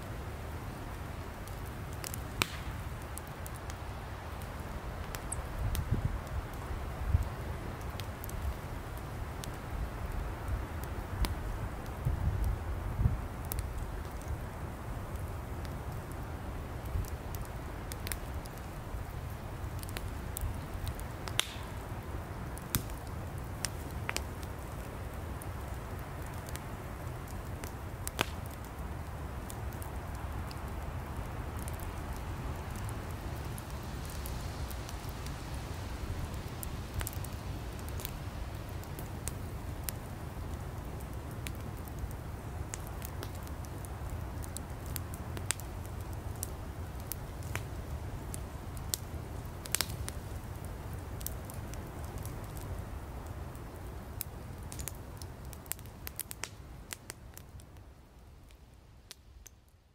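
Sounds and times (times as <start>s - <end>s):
campfire low rumble: 0.0s - 59.9s
fire crackling and popping: 0.0s - 59.9s.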